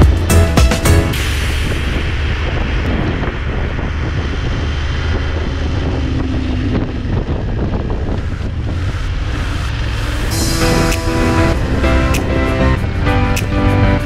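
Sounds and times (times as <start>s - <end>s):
motorcycle engine running: 0.0s - 14.0s
wind rushing over microphone: 1.0s - 14.0s.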